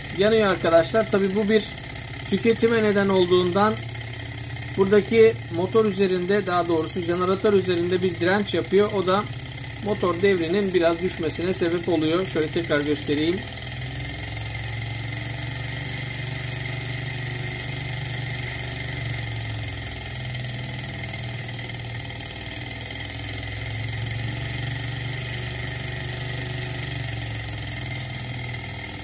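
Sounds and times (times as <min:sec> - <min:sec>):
small stirling engine running: 0:00.0 - 0:29.0.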